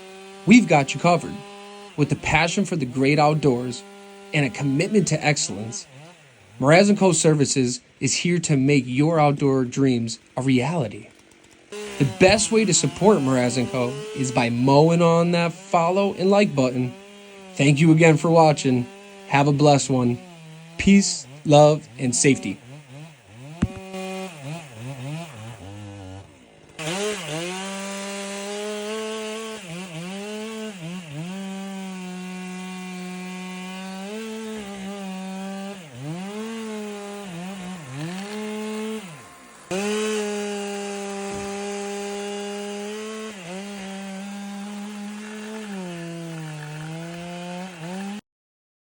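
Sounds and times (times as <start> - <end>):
chainsaw cutting wood: 0.0 - 48.2.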